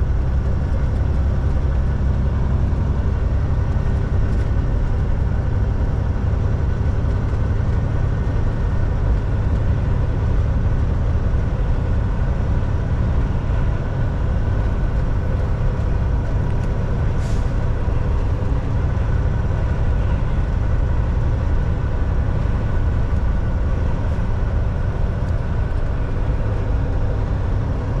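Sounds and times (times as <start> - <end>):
road rumble: 0.0 - 28.0
truck engine drone: 0.0 - 28.0.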